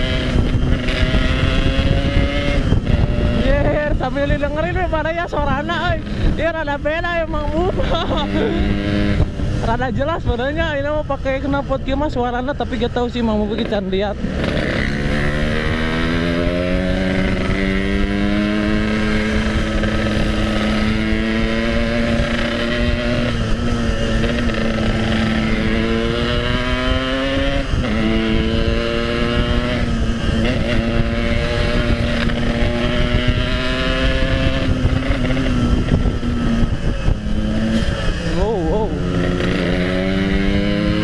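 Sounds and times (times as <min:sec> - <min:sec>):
two-stroke motorcycle engine: 0:00.0 - 0:41.0
wind rush on microphone: 0:00.0 - 0:41.0.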